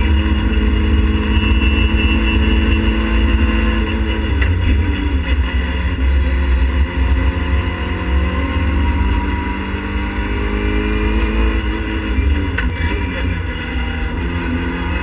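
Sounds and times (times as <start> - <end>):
racing car engine at high revs: 0.0 - 15.0.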